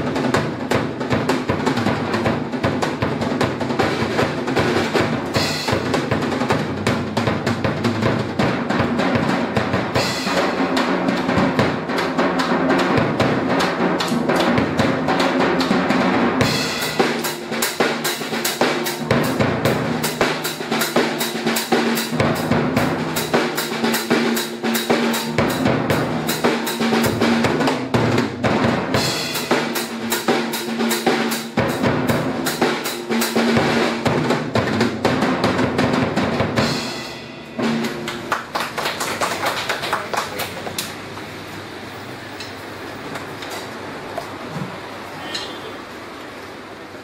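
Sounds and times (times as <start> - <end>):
acoustic drum kit solo: 0.0 - 41.4.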